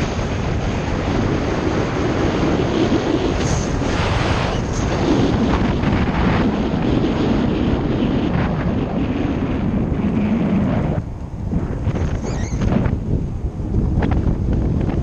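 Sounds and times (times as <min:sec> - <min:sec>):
low motorcycle rumble: 0:00.0 - 0:15.0
wind buffeting microphone: 0:00.0 - 0:15.0.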